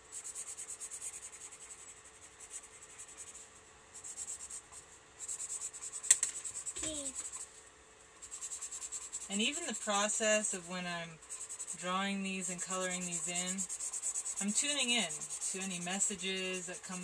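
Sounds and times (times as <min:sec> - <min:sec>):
marker scribbling on paper: 0:00.0 - 0:07.5, 0:08.2 - 0:17.0.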